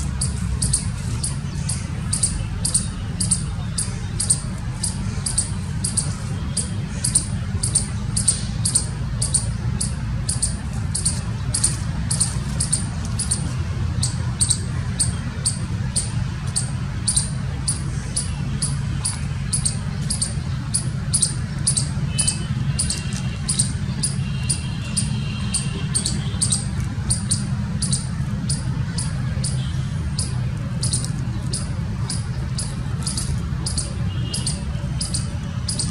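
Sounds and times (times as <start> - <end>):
squirrel chirping: 0.0 - 35.9
steady low rumble: 0.0 - 35.9.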